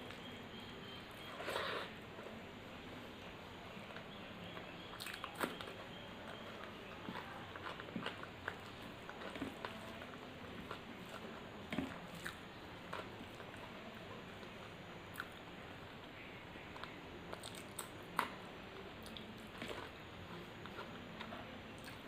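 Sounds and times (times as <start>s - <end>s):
person chewing food: 3.7s - 22.0s.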